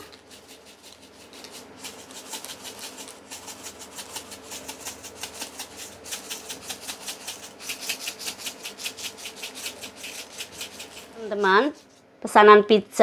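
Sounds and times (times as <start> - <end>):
seeds rattling in shaker jar: 0.0 - 11.9.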